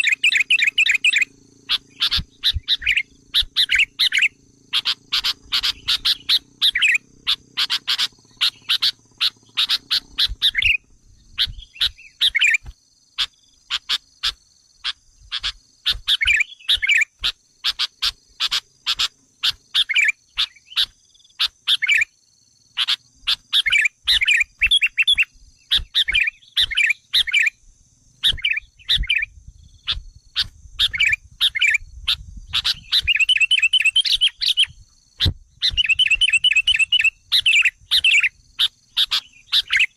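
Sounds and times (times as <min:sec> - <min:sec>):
bird chattering and chirping: 0:00.0 - 0:22.1, 0:22.7 - 0:27.6, 0:28.2 - 0:39.9.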